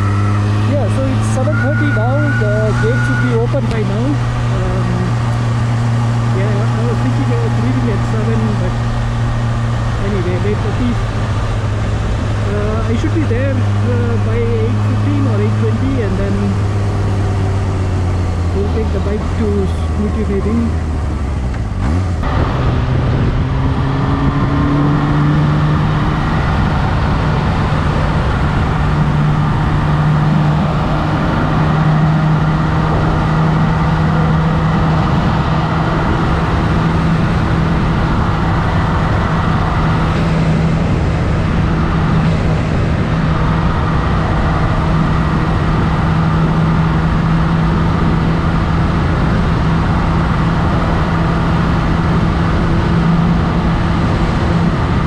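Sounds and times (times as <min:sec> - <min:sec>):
motorcycle engine: 0:00.0 - 0:55.0
wind and road noise: 0:00.0 - 0:55.0.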